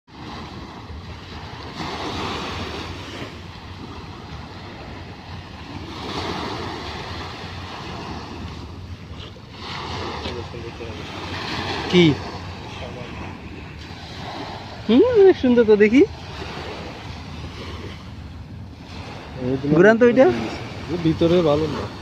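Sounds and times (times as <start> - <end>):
sea waves breaking on beach: 0.1 - 22.0
wind rumbling on microphone: 0.1 - 22.0.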